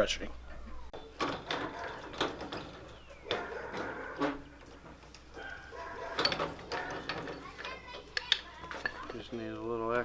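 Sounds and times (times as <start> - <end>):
metal tools clanking: 1.0 - 10.0.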